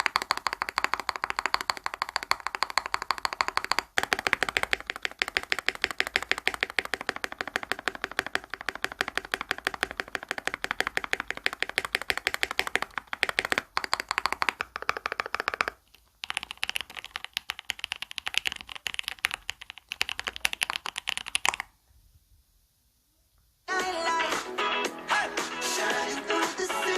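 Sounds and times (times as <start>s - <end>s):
fast typing on mechanical keyboard: 0.0s - 21.7s.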